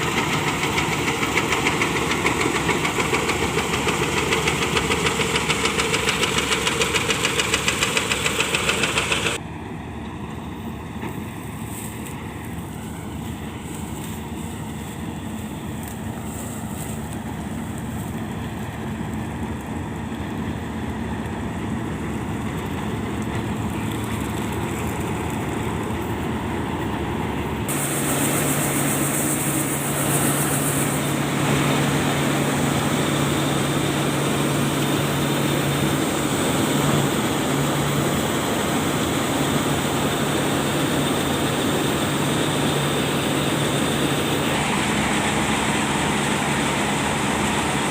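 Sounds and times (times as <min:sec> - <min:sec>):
diesel farm machinery running: 0:00.0 - 0:47.9.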